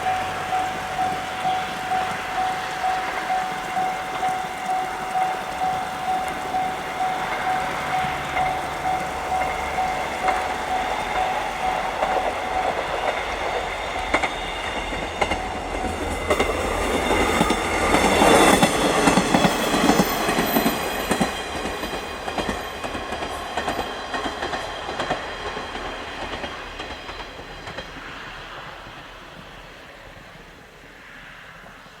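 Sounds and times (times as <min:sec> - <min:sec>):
wheels clattering over rail joints: 0:00.0 - 0:28.7
diesel railcar passing: 0:00.0 - 0:32.0.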